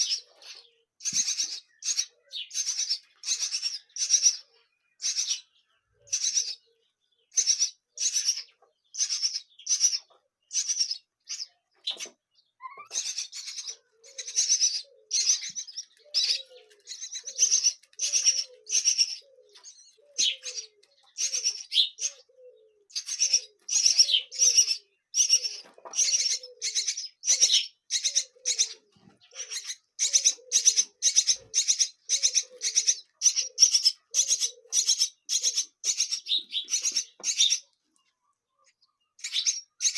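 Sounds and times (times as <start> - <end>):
nestling birds begging calls: 0.0 - 39.9.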